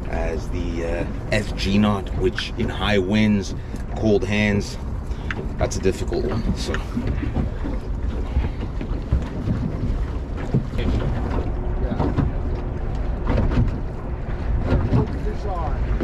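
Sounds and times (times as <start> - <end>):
water lapping at boat hull: 0.0 - 16.0
wind rumbling on microphone: 0.0 - 16.0.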